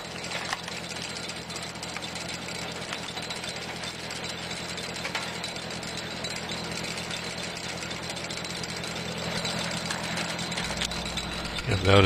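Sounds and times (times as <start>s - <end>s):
screw log splitter spinning: 0.0s - 12.0s
tractor engine running: 0.0s - 12.0s.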